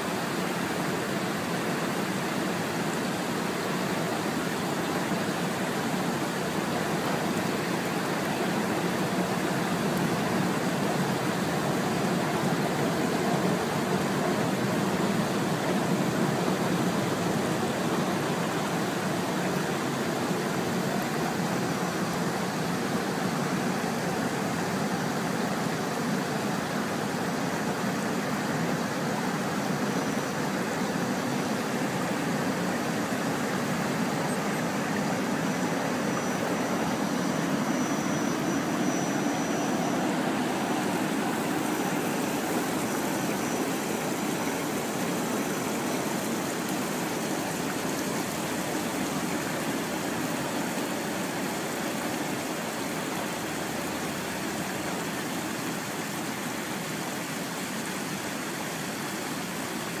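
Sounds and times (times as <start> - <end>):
faint high whine: 0.0 - 55.3
creek water flowing: 0.0 - 60.0.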